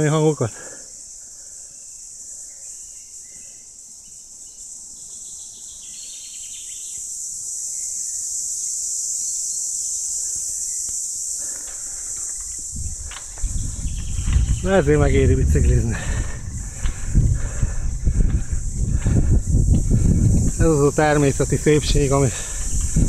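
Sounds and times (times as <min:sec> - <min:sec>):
cicadas buzzing: 0:00.0 - 0:23.0.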